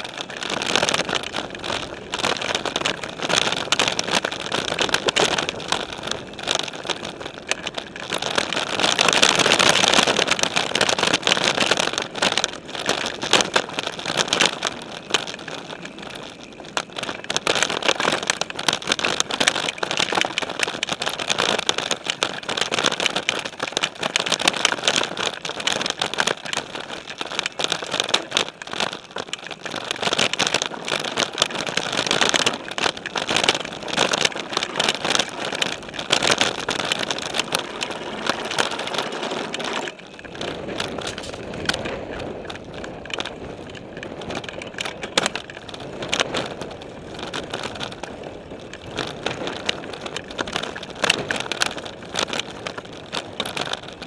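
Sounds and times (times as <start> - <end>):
bike rattling and clattering: 0.0 - 54.0
tyres crunching on dirt: 0.0 - 54.0.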